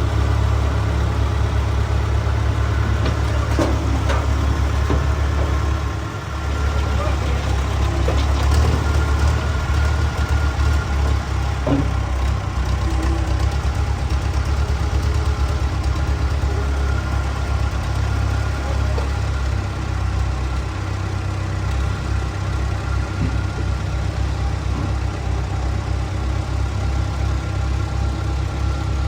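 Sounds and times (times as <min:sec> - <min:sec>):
engine idling with low chugging: 0:00.0 - 0:29.0.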